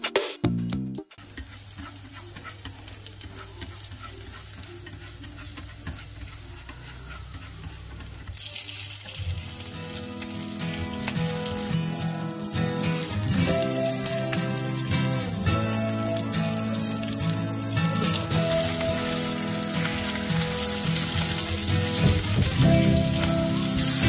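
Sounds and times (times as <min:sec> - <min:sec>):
garlic sizzling in hot oil: 0:01.2 - 0:24.0.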